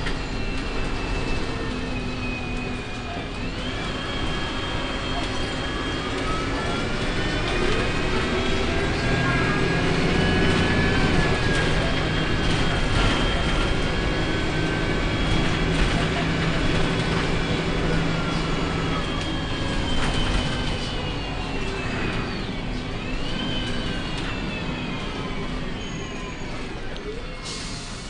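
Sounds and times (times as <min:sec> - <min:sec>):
bus engine running: 0:00.0 - 0:28.0.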